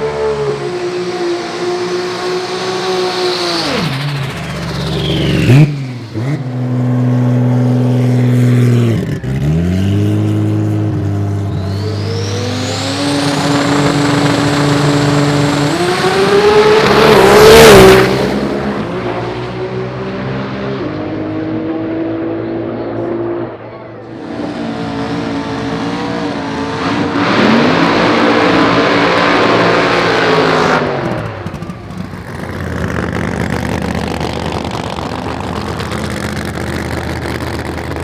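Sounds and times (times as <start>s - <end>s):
drag racing car engine revving: 0.0s - 38.0s.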